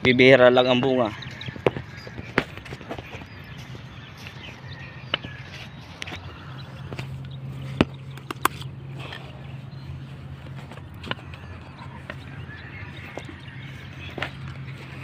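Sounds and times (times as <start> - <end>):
footsteps in a field: 0.0 - 15.0.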